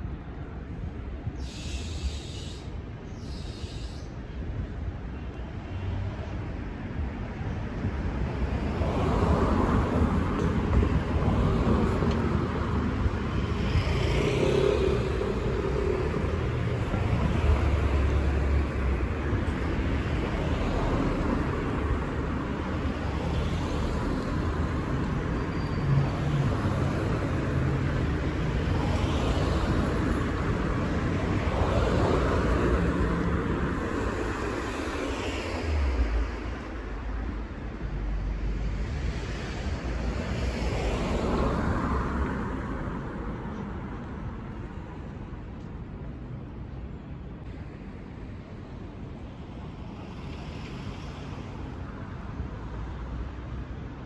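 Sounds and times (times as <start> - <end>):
cars driving along street: 0.0 - 54.0.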